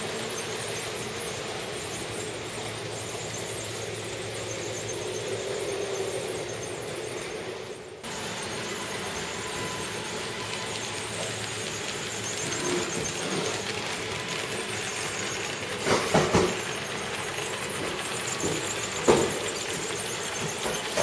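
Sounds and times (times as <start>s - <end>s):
model trains whirring on track: 0.0s - 21.0s
thin wheel squeal: 0.0s - 21.0s.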